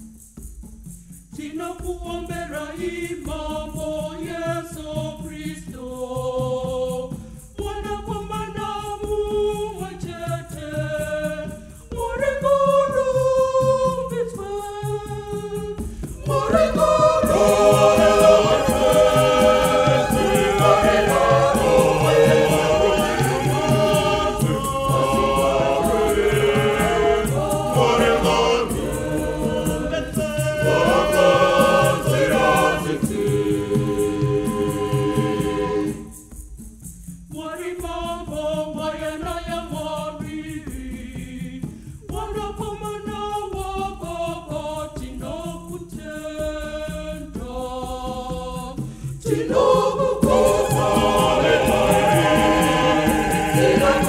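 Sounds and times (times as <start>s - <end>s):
percussion: 0.0s - 54.0s
choir singing a hymn: 1.4s - 36.4s, 37.4s - 54.0s.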